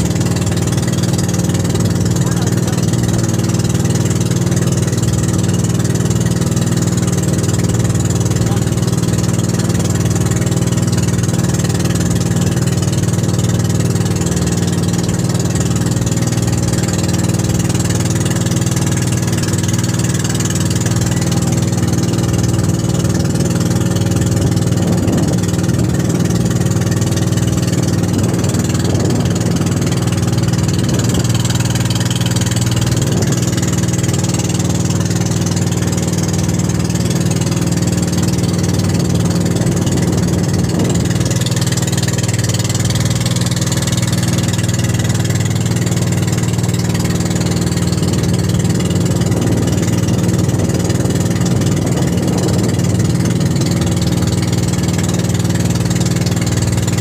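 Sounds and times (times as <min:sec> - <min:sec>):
boat engine drone: 0:00.0 - 0:57.0
water and wind hiss: 0:00.0 - 0:57.0.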